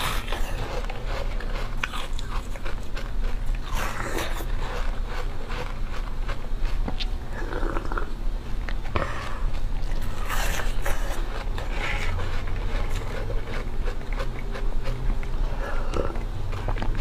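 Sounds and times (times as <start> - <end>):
crunching and chewing ice: 0.0 - 17.0
teeth scraping ice: 0.0 - 17.0.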